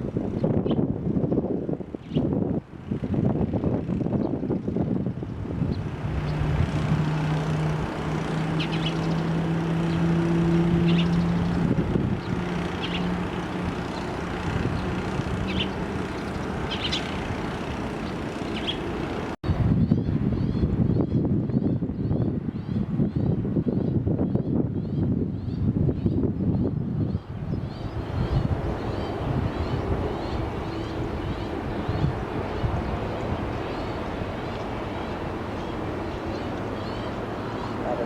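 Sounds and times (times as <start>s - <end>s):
jet engine rushing drone: 0.0s - 19.8s, 27.0s - 38.0s.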